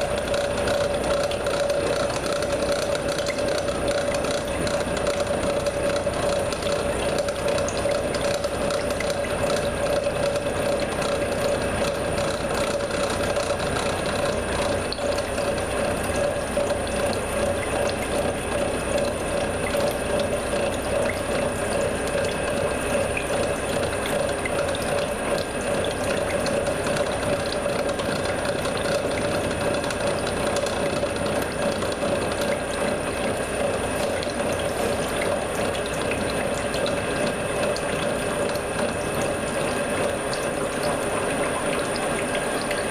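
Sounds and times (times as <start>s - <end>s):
milling machine whine: 0.0s - 42.9s.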